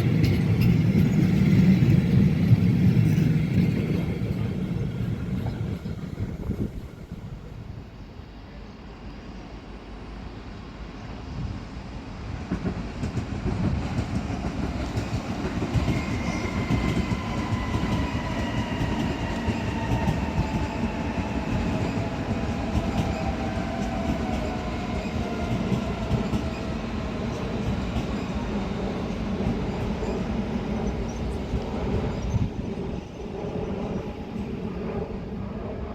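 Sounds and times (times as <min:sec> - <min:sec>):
train rumble: 0:00.0 - 0:35.9.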